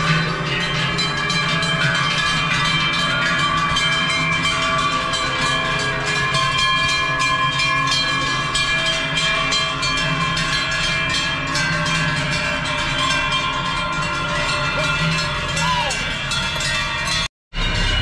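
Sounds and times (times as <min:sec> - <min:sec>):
cowbells clanging: 0:00.0 - 0:18.0.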